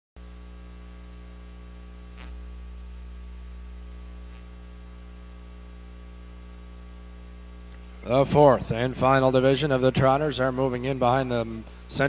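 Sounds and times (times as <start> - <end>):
background hiss: 0.2 - 12.0
electrical mains hum: 0.2 - 12.0.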